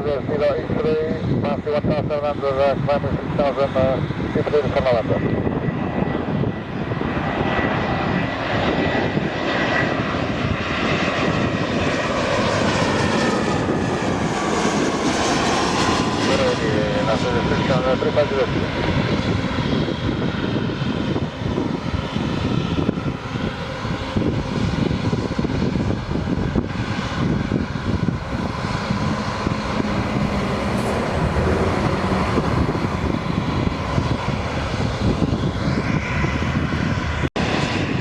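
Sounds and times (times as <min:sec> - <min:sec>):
jet engine rush and rumble: 0:00.0 - 0:38.0.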